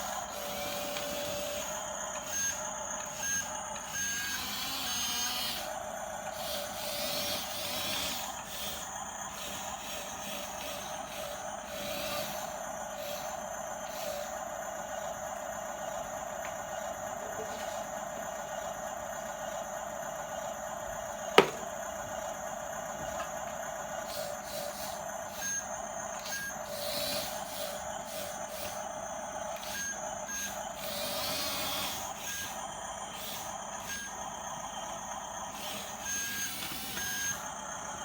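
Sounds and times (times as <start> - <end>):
electric drive whine: 0.0 - 38.0.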